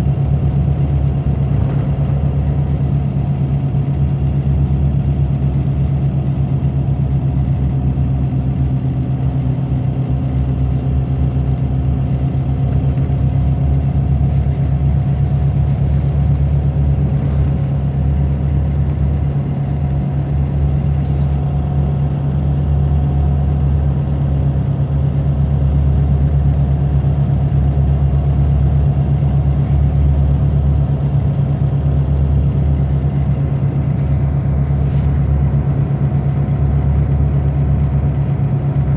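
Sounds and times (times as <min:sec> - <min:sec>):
diesel bus engine droning: 0:00.0 - 0:38.9.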